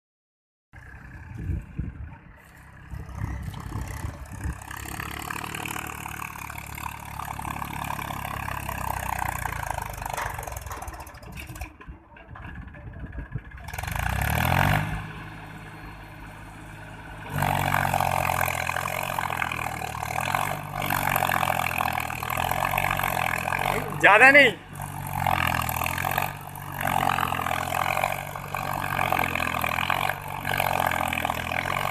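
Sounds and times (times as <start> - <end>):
tractor diesel engine revving: 0.8 - 31.9.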